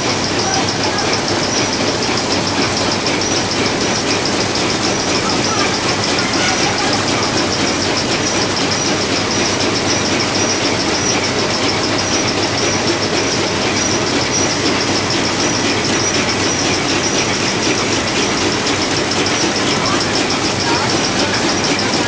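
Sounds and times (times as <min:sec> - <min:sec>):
conveyor mechanical clatter: 0:00.0 - 0:22.0
high regular ticking: 0:00.0 - 0:22.0.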